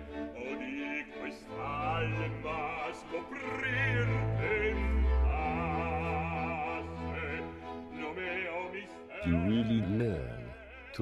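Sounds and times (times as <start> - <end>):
man singing opera: 0.3 - 11.0.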